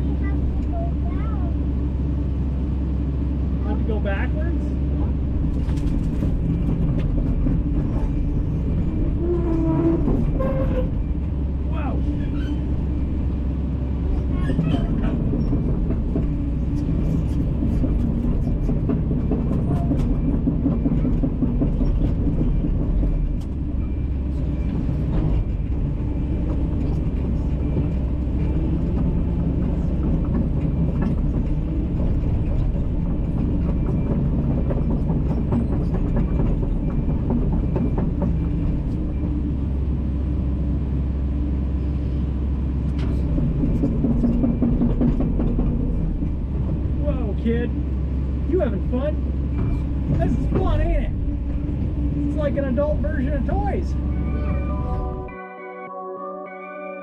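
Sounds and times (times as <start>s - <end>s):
excavator diesel engine running: 0.0s - 55.4s.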